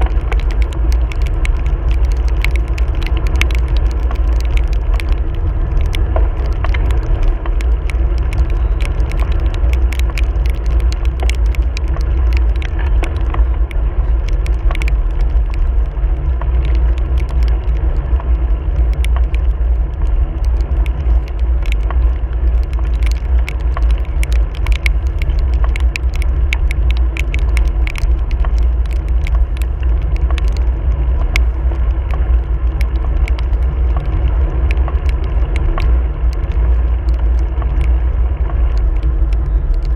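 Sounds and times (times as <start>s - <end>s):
raindrops hitting camera: 0.0s - 39.9s
wind buffeting microphone: 0.0s - 39.9s.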